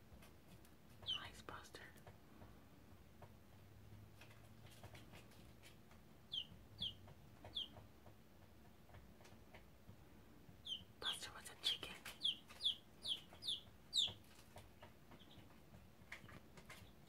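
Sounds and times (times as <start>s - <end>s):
baby chick peeping: 0.2s - 1.6s, 4.2s - 17.0s.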